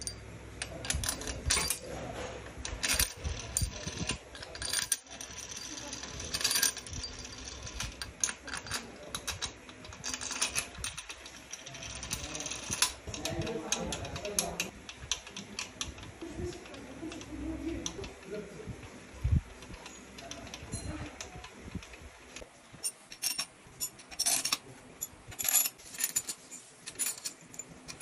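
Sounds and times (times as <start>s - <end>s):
bolts clinking against metal: 0.0s - 18.3s, 22.8s - 28.0s.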